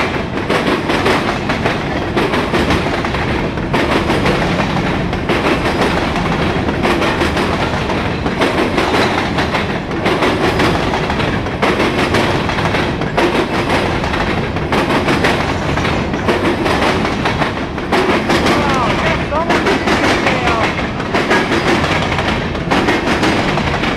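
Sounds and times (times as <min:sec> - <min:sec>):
train wheels clacking over rails: 0:00.0 - 0:23.9.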